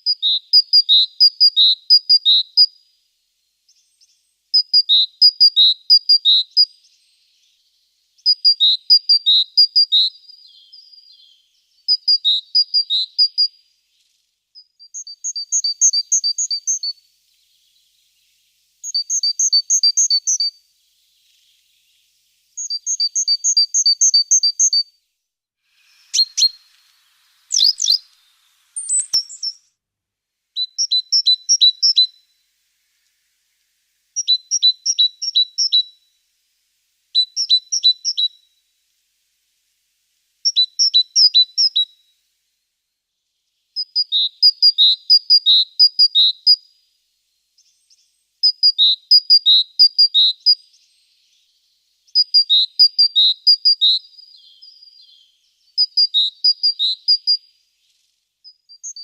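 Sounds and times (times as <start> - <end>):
songbird singing: 0.0 - 29.8, 30.5 - 59.0.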